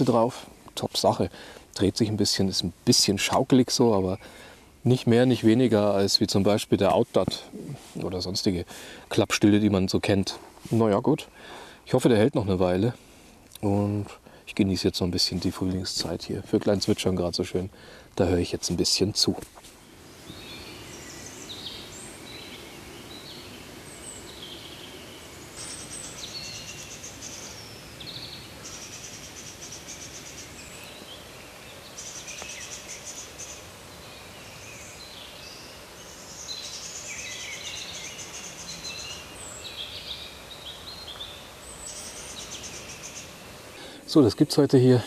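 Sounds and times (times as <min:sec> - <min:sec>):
songbirds singing and chirping: 0:00.0 - 0:45.0.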